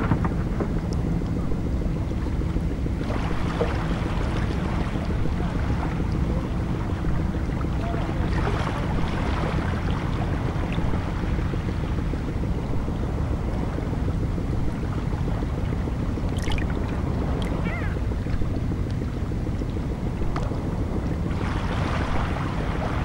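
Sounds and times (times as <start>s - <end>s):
sea and wind rumble: 0.0s - 23.0s.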